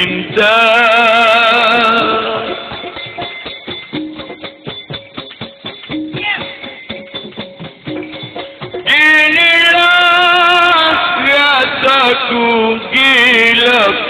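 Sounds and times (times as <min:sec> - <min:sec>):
drum and percussion strokes: 0:00.0 - 0:14.0
held instrumental notes: 0:00.0 - 0:14.0.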